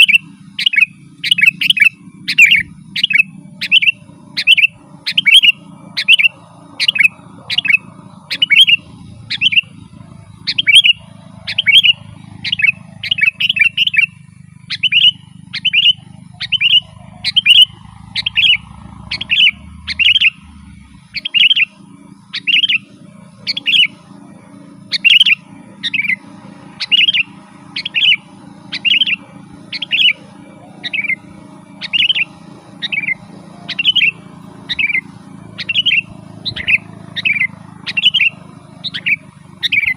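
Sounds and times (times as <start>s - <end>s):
bird calling sharp notes: 0.0s - 39.9s.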